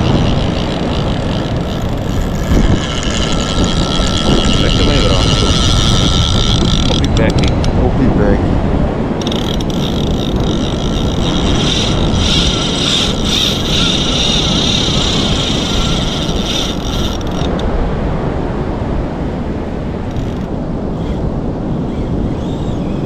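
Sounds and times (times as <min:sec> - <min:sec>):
fishing reel drag whining: 0:00.0 - 0:07.5, 0:09.2 - 0:17.7, 0:20.0 - 0:23.0
wind on microphone: 0:00.0 - 0:23.0.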